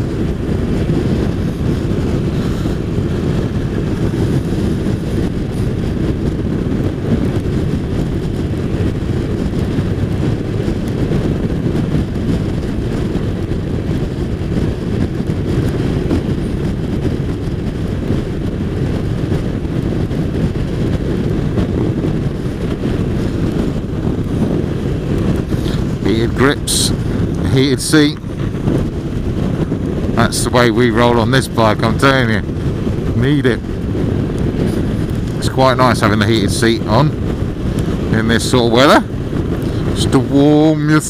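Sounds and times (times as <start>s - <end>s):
wind rush and road noise: 0.0s - 41.0s.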